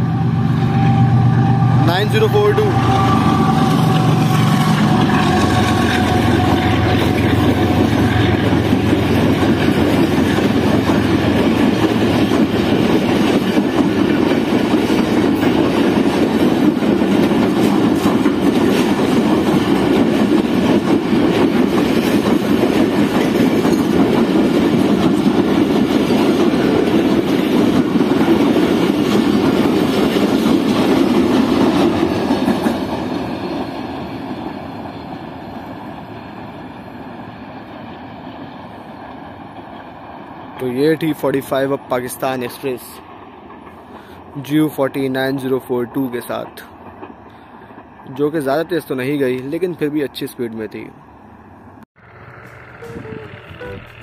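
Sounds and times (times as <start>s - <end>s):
train wheels clattering on rails: 2.6s - 44.3s, 45.4s - 48.6s.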